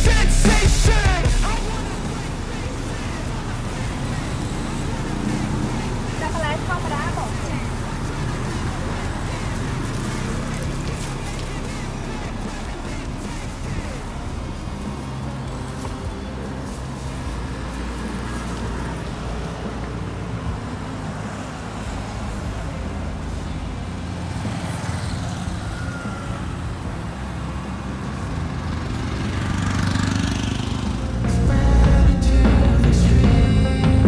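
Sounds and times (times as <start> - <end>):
traffic rumble: 0.0 - 34.0
truck driving by: 0.0 - 34.0.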